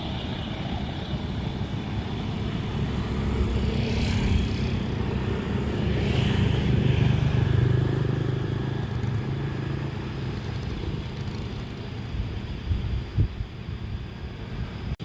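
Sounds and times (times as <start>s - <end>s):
train engine rumble: 0.0s - 15.0s.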